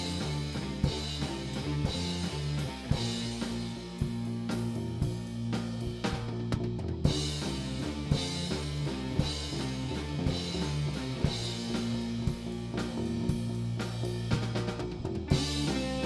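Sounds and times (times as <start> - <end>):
heavy drum hit: 0.0 - 16.0
rock music: 0.0 - 16.0.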